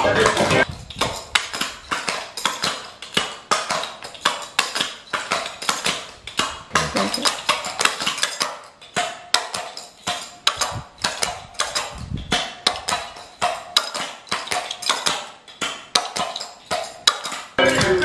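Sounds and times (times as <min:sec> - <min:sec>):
tap shoes on wooden floor: 0:00.0 - 0:18.0.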